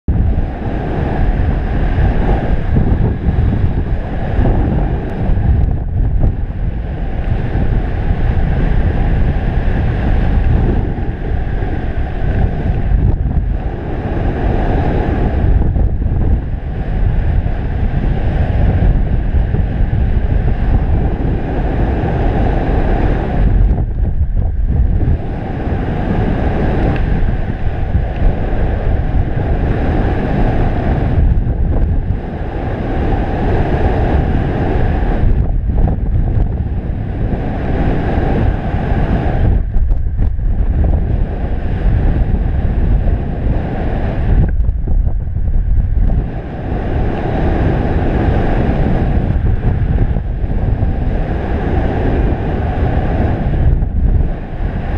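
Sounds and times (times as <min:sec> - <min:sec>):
wind buffeting microphone: 0:00.1 - 0:54.9.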